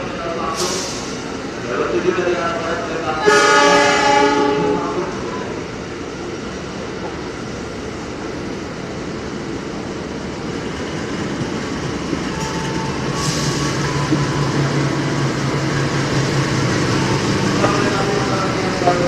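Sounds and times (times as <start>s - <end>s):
diesel locomotive engine drone: 0.0s - 19.0s.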